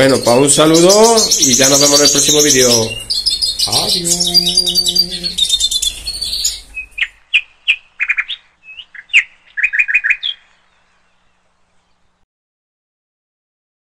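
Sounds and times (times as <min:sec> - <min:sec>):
finches chirping: 0:00.0 - 0:12.1.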